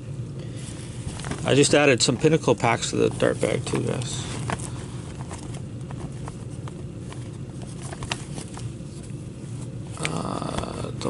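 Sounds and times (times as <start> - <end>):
steady low hum: 0.0 - 11.0
cards rustling in cloth bag: 0.5 - 10.7.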